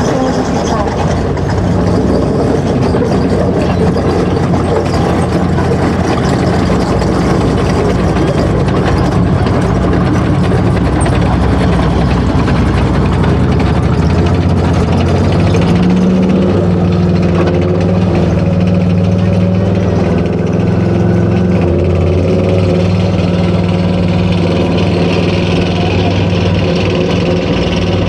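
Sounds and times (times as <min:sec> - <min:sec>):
heavy diesel engines running: 0:00.0 - 0:28.0.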